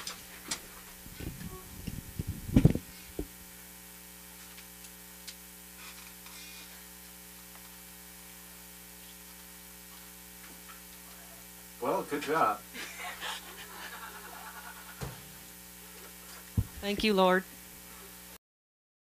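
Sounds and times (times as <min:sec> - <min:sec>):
electrical mains hum: 0:00.0 - 0:18.4.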